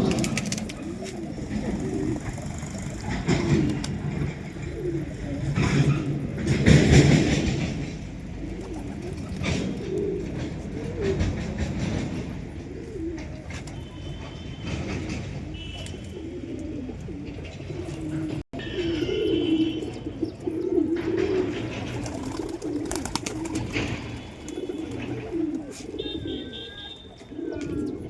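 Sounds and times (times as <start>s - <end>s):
pigeons cooing: 0.0s - 14.4s, 15.0s - 28.0s.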